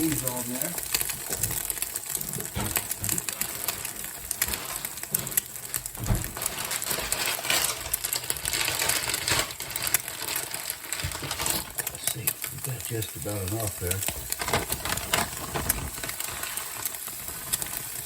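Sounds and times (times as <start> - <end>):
eggs sizzling in a frying pan: 0.0 - 18.0.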